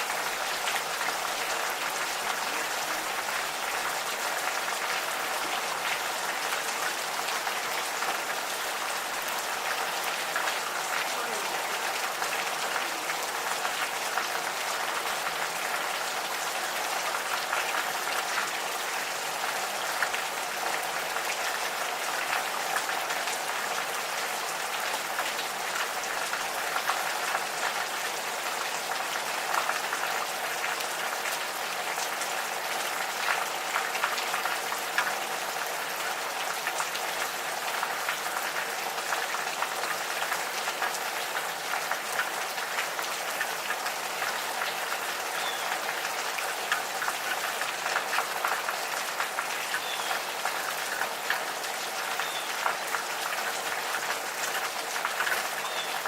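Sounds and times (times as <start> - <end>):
gentle rain pattering: 0.0 - 56.0.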